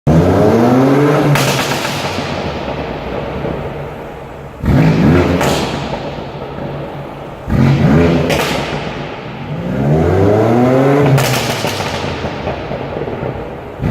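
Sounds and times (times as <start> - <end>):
car engine revving: 0.1 - 13.9
exhaust crackling and popping: 0.1 - 13.9.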